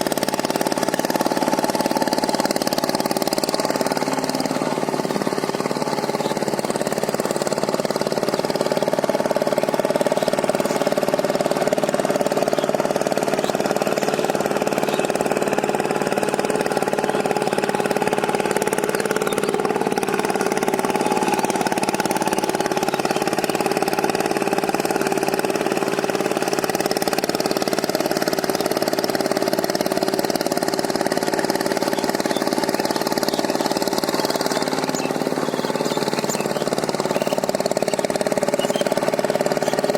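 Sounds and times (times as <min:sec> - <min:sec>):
power tiller engine running: 0:00.0 - 0:39.9.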